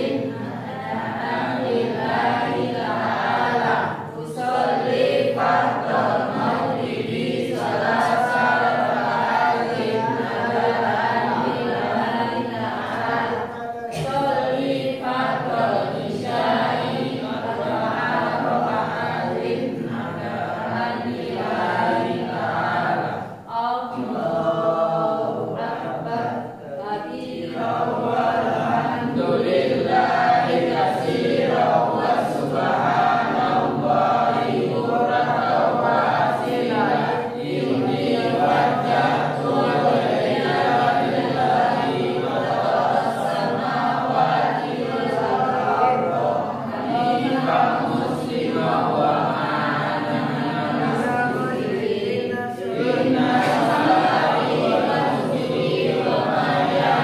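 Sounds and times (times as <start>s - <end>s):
group reciting prayers in unison: 0.0s - 57.0s.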